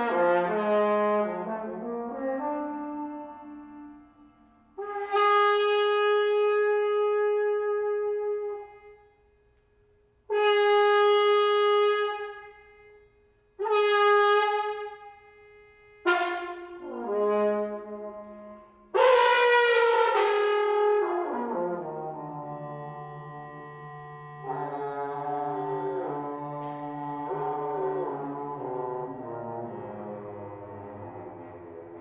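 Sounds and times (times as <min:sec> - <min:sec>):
bass trumpet playing: 0:00.0 - 0:09.1, 0:10.3 - 0:32.0.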